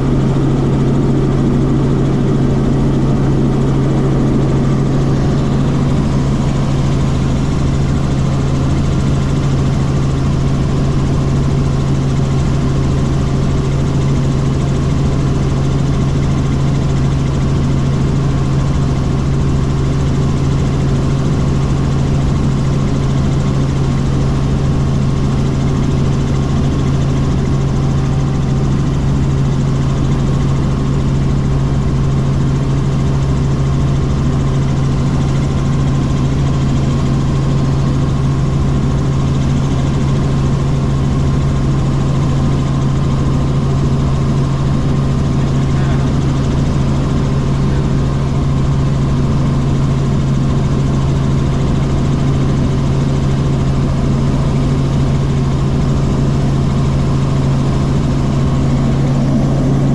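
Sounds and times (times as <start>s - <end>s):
helicopter engine and rotors droning: 0.0s - 59.9s.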